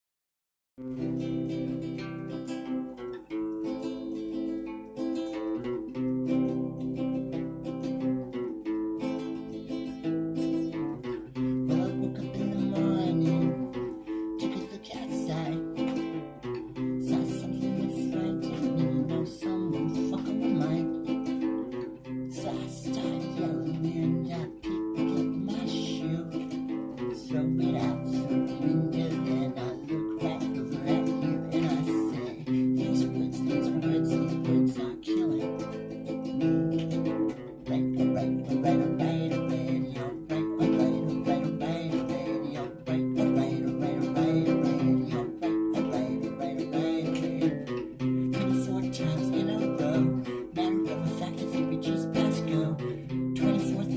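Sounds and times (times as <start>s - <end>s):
acoustic guitar strumming: 0.8s - 53.9s.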